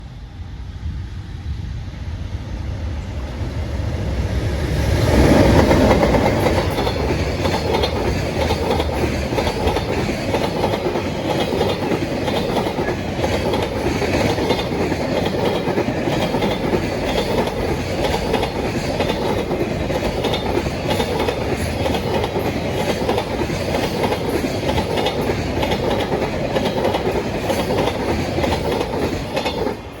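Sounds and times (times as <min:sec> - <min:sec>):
electric locomotive passing: 0:00.0 - 0:30.0
train wheels clickety-clack: 0:03.4 - 0:30.0.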